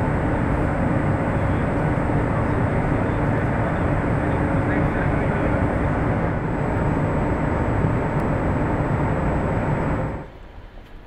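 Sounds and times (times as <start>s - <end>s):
faint steady hum tones: 0.0s - 11.0s.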